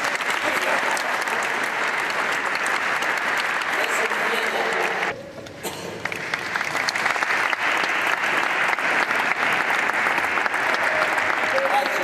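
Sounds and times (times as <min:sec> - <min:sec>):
audience applauding: 0:00.0 - 0:05.2, 0:05.8 - 0:12.0.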